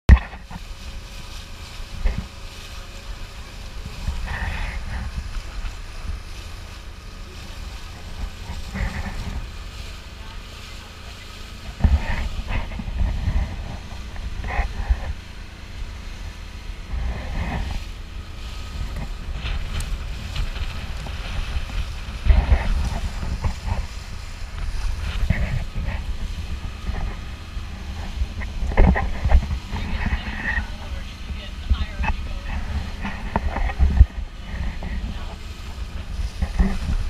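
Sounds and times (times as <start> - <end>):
boat engine drone: 0.0 - 37.0
wake splashing along hull: 0.1 - 37.0
wind buffeting microphone: 0.1 - 37.0.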